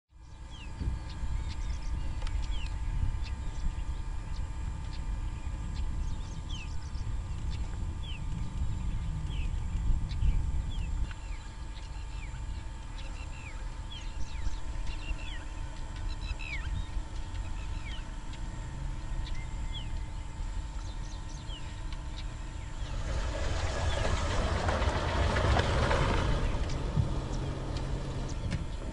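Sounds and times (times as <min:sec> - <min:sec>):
faint steady whine: 0:00.1 - 0:28.9
birds calling: 0:00.2 - 0:28.9
low rumble: 0:00.5 - 0:28.9.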